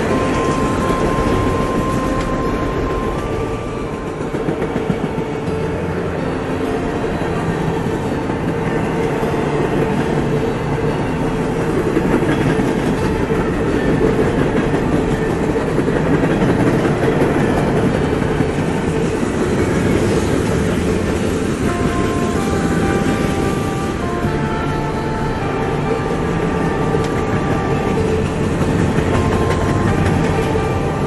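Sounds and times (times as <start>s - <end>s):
freight cars rumbling on rails: 0.0s - 31.0s.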